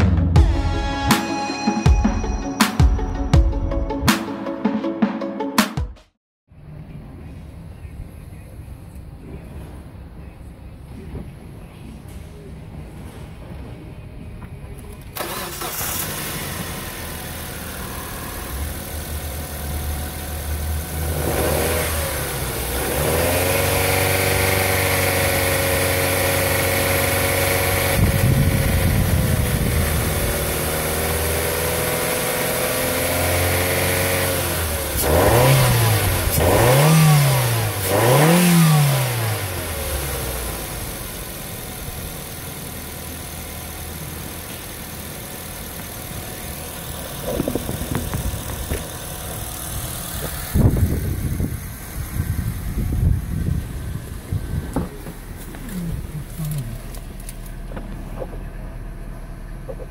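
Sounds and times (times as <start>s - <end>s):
car engine idling and revving: 6.5s - 59.9s
car engine starting: 6.6s - 59.9s.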